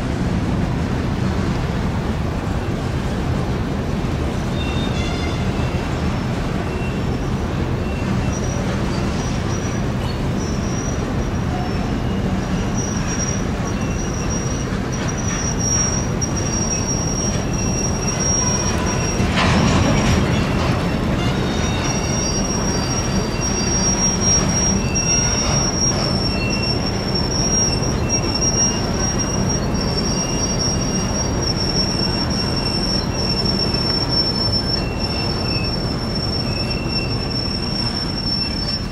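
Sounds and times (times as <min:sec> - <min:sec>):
train wheels rumbling on rails: 0:00.0 - 0:38.9
high-pitched wheel squeal: 0:04.5 - 0:38.9.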